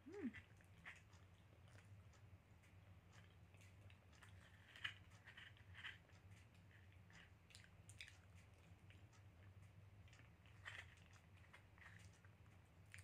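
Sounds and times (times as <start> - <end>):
low steady hum: 0.0 - 13.0
chewing and mouth smacks: 0.1 - 13.0.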